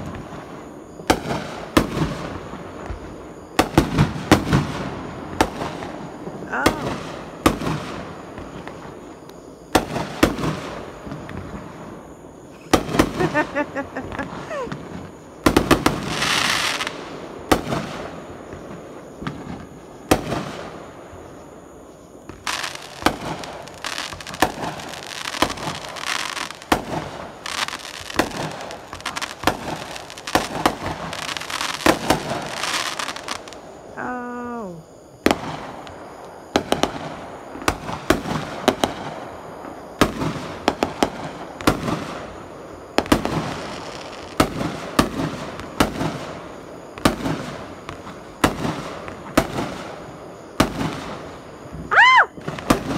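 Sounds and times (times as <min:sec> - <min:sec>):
fireworks bangs and pops: 0:00.0 - 0:21.4, 0:22.2 - 0:33.6, 0:35.2 - 0:52.9
fireworks crackling: 0:00.0 - 0:52.9.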